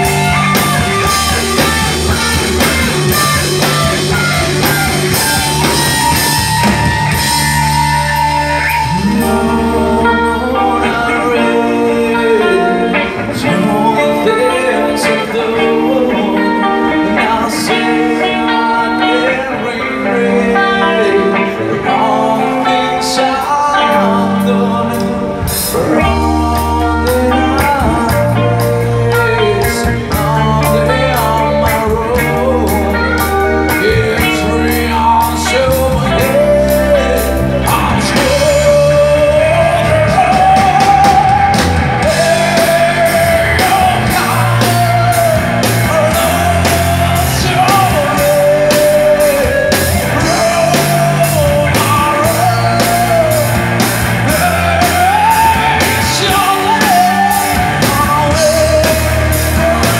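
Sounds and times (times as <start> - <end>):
person singing: 0.0 - 59.9
rock band playing: 0.0 - 59.9.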